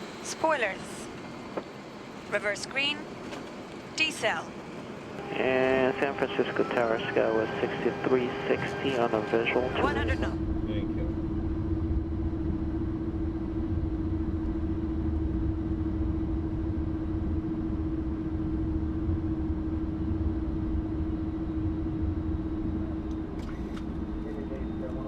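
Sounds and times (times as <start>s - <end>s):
airliner rolling on runway: 0.0s - 25.0s
constant hum: 0.0s - 25.0s.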